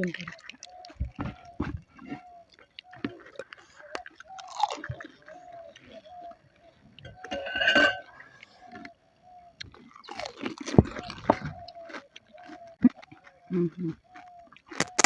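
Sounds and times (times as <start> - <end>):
chewing and crunching crisp food: 0.0 - 7.3, 8.0 - 15.0.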